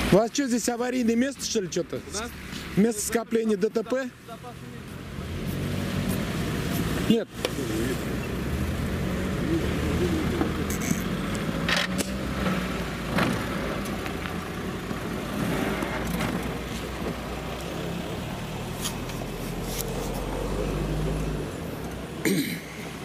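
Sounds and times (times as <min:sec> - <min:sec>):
car engine humming: 0:00.0 - 0:23.0.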